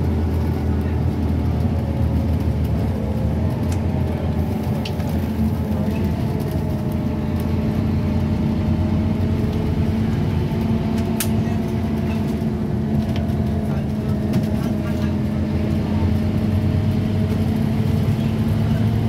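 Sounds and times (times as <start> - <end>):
bus diesel engine drone: 0.0 - 19.0
road noise: 0.0 - 19.0.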